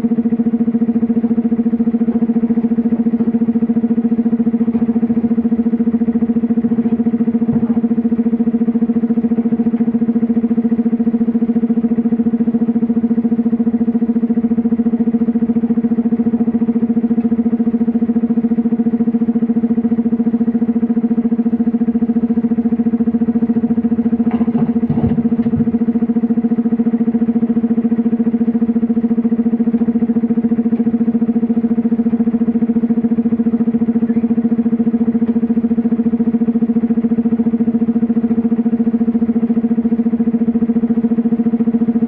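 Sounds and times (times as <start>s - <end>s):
excavator engine humming: 0.0s - 42.0s.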